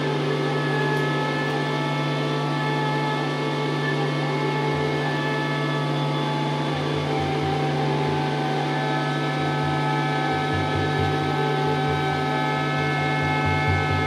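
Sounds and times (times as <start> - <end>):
drone music held tones: 0.0 - 14.0
low uneven throbbing pulse: 0.0 - 14.0.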